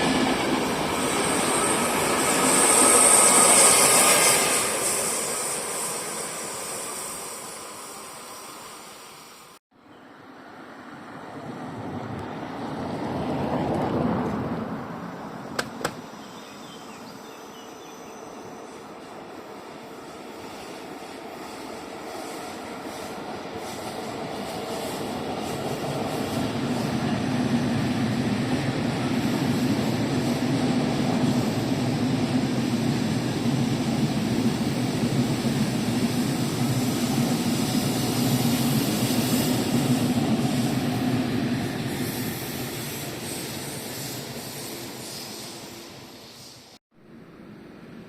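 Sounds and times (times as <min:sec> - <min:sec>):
train passing: 0:00.0 - 0:48.0.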